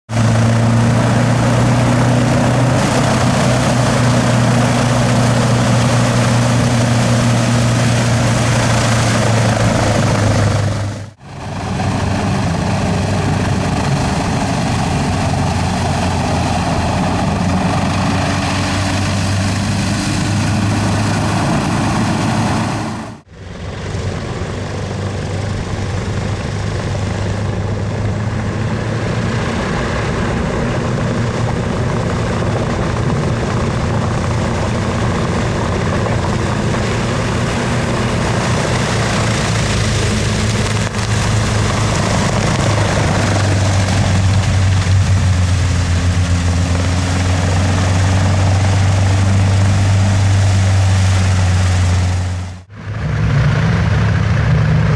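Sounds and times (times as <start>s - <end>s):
hovercraft engine drone: 0.1s - 54.9s.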